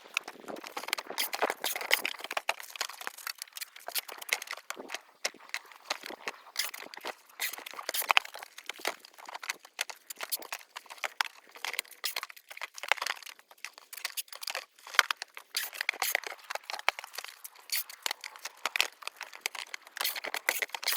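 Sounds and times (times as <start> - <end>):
packing material crinkling: 0.0 - 20.9.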